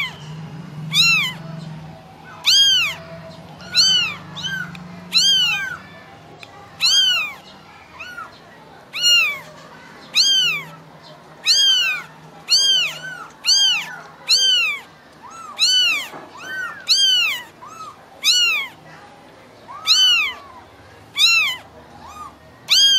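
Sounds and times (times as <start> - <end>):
kittens meowing: 0.0 - 0.2, 0.8 - 18.9, 19.7 - 22.9.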